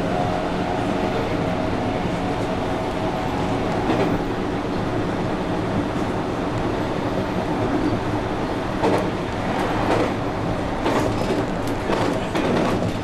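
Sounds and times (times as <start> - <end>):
train running rumble: 0.0 - 13.0
wheels clacking on track: 0.1 - 13.0.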